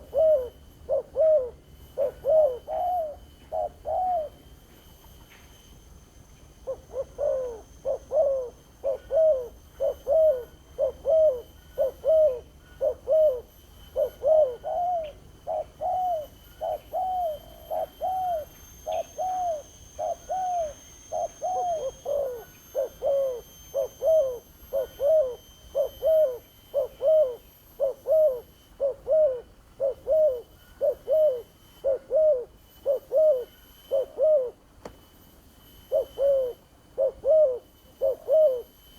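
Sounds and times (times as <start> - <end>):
dove cooing: 0.0 - 4.5, 6.6 - 34.6, 35.8 - 38.9.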